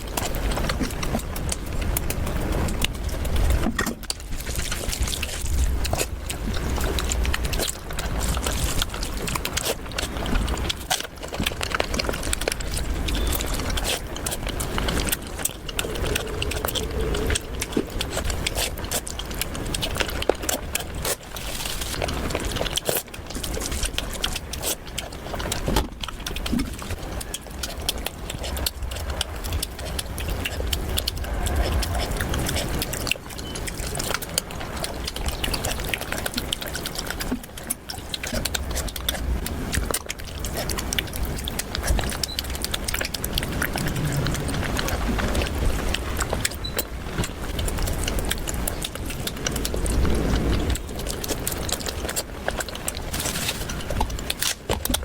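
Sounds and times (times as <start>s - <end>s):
chewing and crunching food: 0.0s - 55.0s
slurping: 0.1s - 55.0s.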